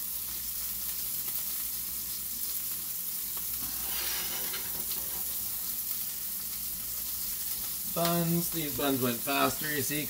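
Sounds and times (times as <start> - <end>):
burgers sizzling in a skillet: 0.0 - 10.0.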